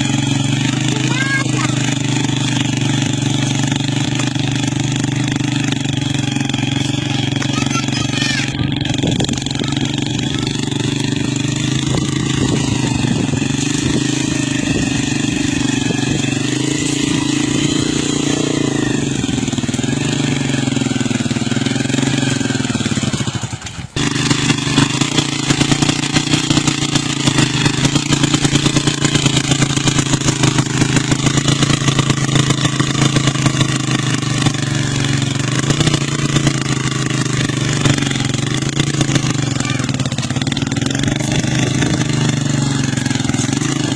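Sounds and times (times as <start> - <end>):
fast rattling clatter: 0.0 - 43.9
motorcycle engine running: 0.0 - 43.9.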